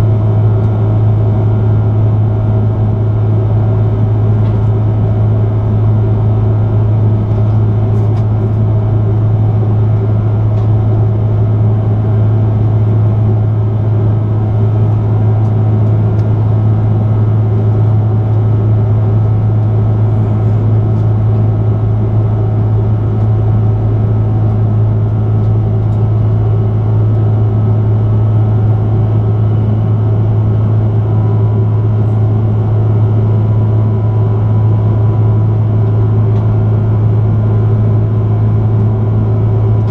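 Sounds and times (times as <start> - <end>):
aircraft cabin engine drone: 0.0 - 39.9.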